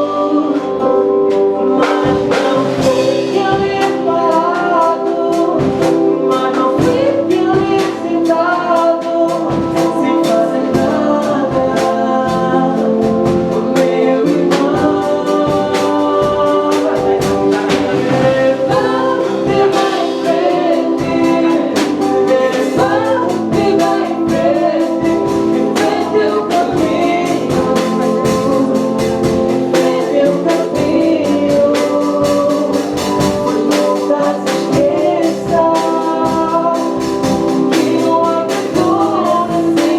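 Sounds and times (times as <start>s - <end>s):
band music: 0.0s - 39.9s
lead singer: 0.0s - 39.9s
percussion beat: 0.0s - 39.9s.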